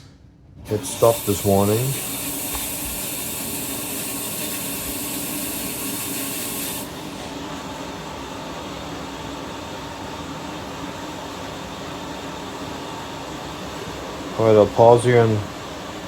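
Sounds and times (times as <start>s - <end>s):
washing machine spinning: 0.5s - 16.0s.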